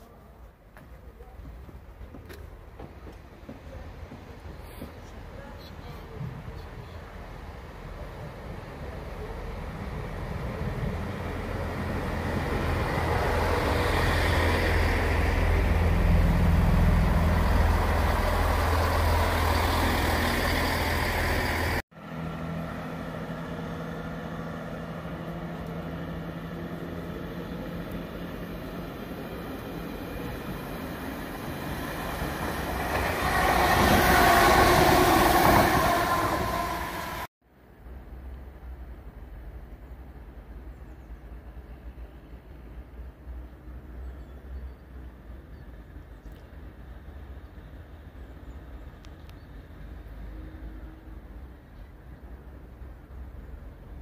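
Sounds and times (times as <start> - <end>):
diesel train engine rumble: 0.0 - 54.0
distant train passing: 0.0 - 54.0.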